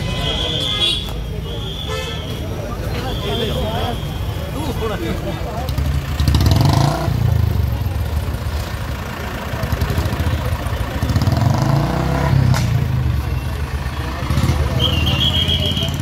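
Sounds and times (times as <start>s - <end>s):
truck engines running: 0.0s - 16.0s.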